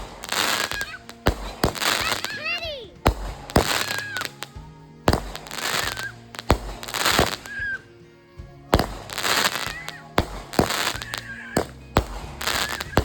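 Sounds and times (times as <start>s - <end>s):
fireworks bangs with crackling hiss: 0.0s - 13.0s.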